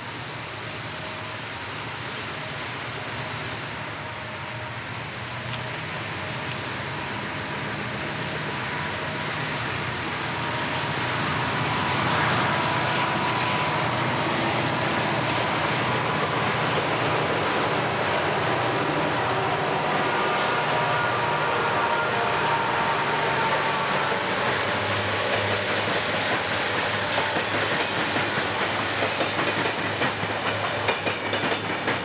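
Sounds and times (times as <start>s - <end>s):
diesel locomotive engines droning: 0.0s - 32.0s.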